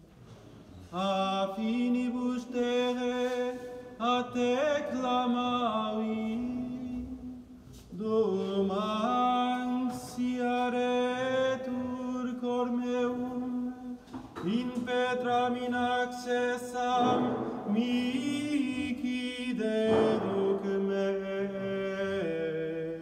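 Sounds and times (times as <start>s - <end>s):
man singing a chant: 0.9s - 23.0s.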